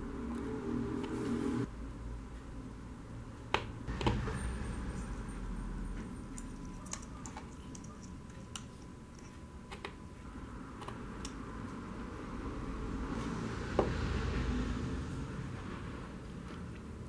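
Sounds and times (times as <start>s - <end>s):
low background noise: 0.0s - 14.1s.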